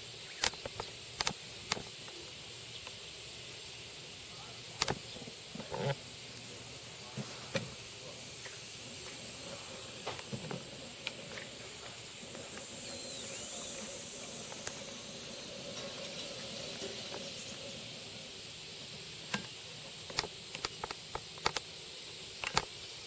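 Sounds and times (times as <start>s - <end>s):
insects hissing: 0.0s - 23.0s.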